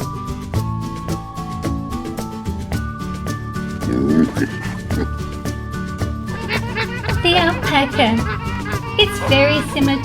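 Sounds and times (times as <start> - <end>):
cheerful background music: 0.0 - 10.0.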